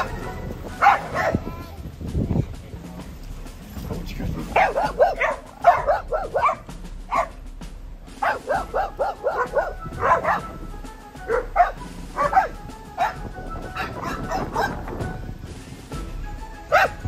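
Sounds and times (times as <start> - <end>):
dogs barking and yipping: 0.0 - 1.8, 4.4 - 17.0
music: 0.0 - 17.0.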